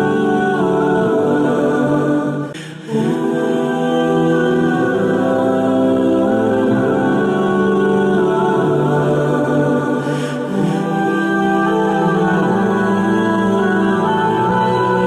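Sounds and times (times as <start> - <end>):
a cappella voices singing: 0.0 - 15.0.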